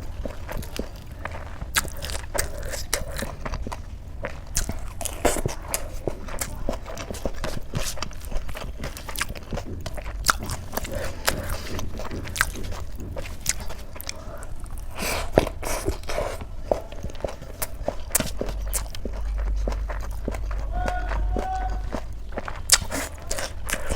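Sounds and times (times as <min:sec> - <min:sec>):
person chewing: 0:00.0 - 0:23.9.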